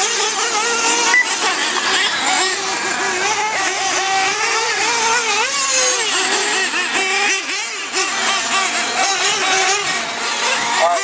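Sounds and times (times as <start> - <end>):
radio-controlled car engines whining: 0.0 - 11.0.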